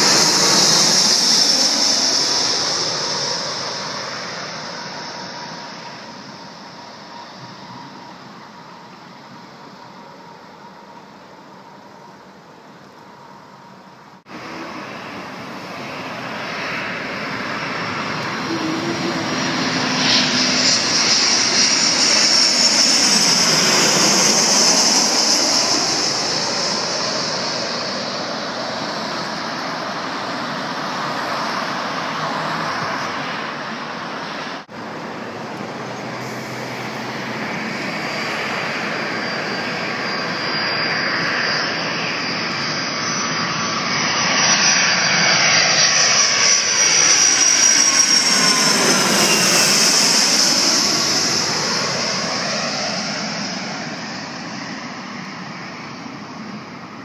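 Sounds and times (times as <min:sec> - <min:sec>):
jet airliner passing overhead: 0:00.0 - 0:57.0
jet engine high whine: 0:00.0 - 0:57.0.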